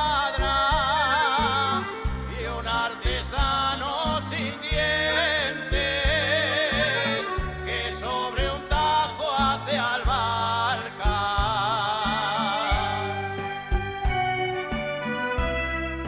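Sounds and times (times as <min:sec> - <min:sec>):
men's vocal group singing: 0:00.0 - 0:13.5
lead voice singing with vibrato: 0:00.0 - 0:15.0.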